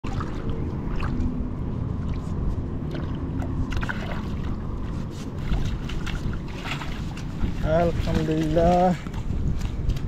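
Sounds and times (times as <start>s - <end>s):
fish splashing: 0.0s - 8.1s
shallow water splashing: 0.0s - 10.0s.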